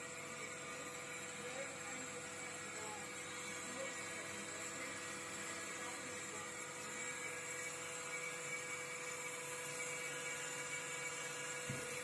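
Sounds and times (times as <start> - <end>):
machine hum with whining tones: 0.0 - 12.0.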